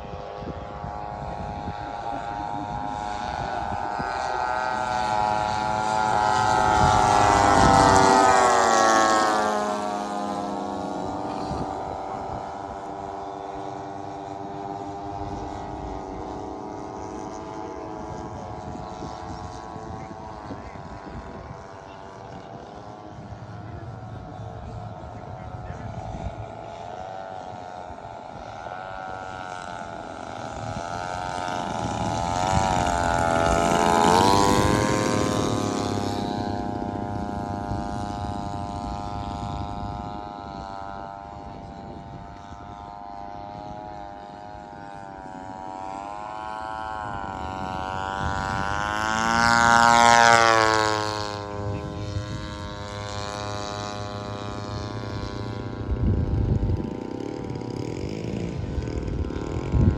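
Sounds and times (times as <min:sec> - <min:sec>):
model airplane engines passing: 0:00.0 - 0:59.9.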